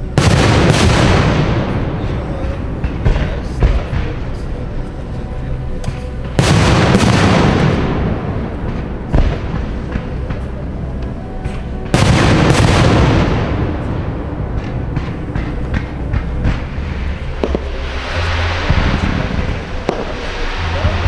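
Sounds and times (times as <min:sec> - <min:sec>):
firework pops and crackles: 0:00.2 - 0:04.6, 0:05.8 - 0:21.0.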